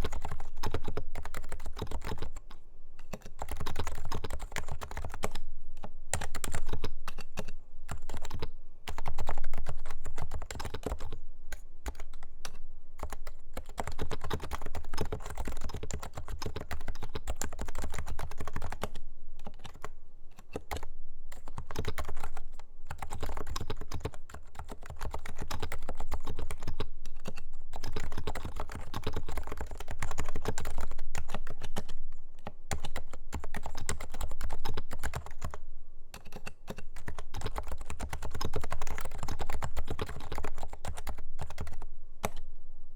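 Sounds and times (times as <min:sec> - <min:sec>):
keyboard typing: 0:00.0 - 0:35.6, 0:36.2 - 0:42.4.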